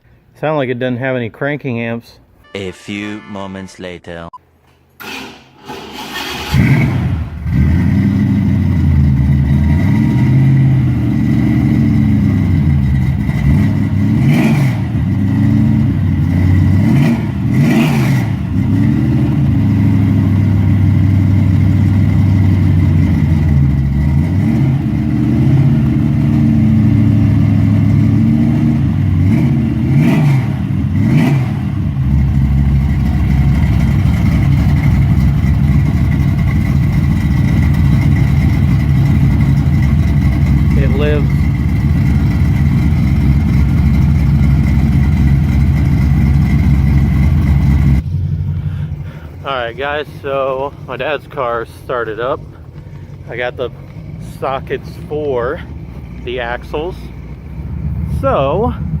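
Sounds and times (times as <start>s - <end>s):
car engine revving and idling: 5.7s - 59.0s.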